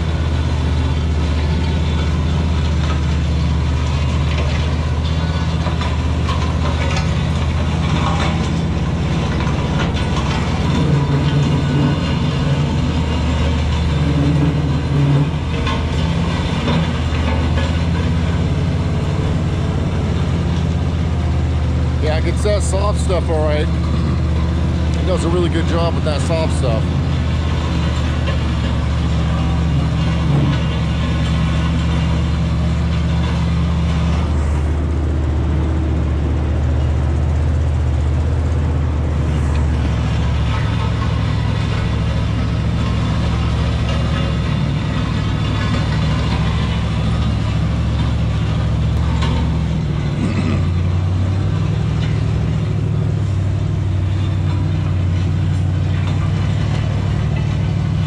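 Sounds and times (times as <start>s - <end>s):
pickup truck engine under load: 0.0s - 58.0s
steel frame scraping through dirt: 0.0s - 58.0s.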